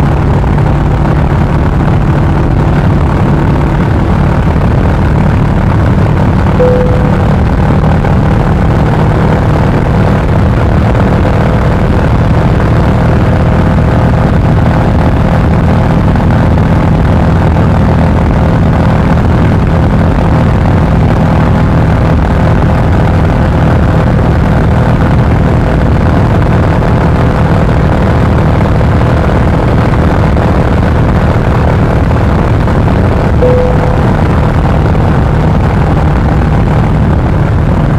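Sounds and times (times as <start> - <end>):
motorcycle engine cruising: 0.0 - 37.9.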